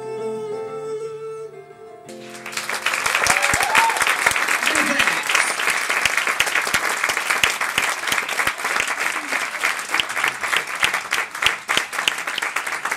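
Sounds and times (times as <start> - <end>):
audience applause: 2.2 - 12.9.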